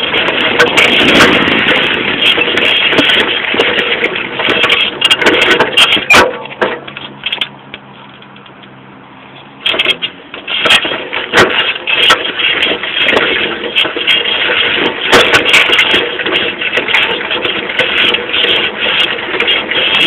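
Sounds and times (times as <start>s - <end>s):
bicycle rattling over rough ground: 0.0s - 20.0s.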